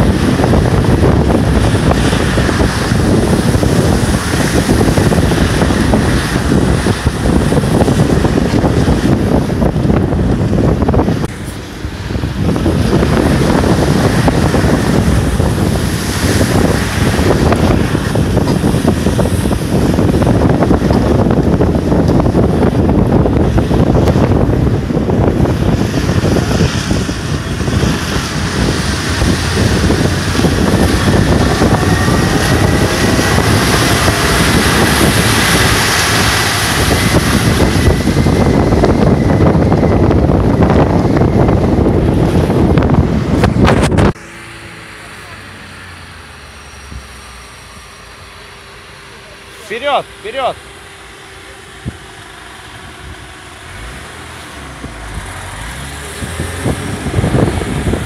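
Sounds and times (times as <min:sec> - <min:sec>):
all-terrain vehicle driving: 0:00.0 - 0:58.0
wind buffeting microphone: 0:00.0 - 0:58.0.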